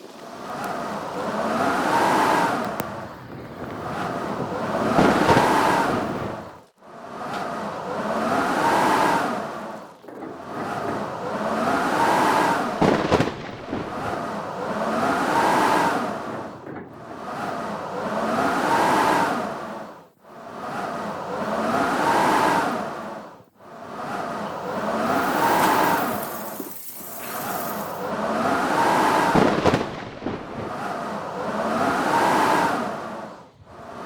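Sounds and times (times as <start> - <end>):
howling blizzard wind: 0.0 - 34.0.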